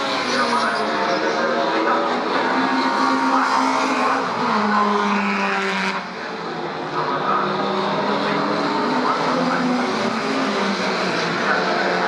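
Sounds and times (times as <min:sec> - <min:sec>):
race car engines at speed: 0:00.0 - 0:12.0.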